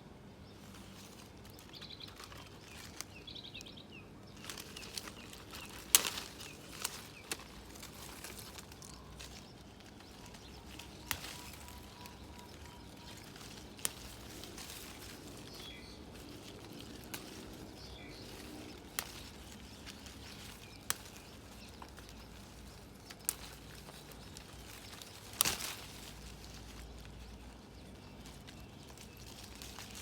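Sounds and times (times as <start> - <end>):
faint bird chirps: 0.0 - 30.0.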